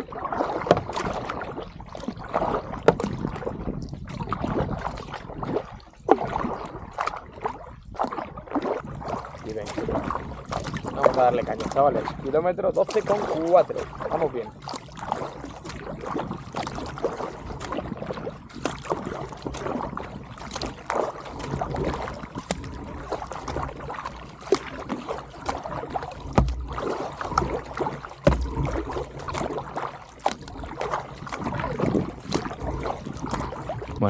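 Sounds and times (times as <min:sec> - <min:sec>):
kayak paddle splashing in water: 0:00.0 - 0:34.0
water dripping off paddle: 0:00.0 - 0:34.0.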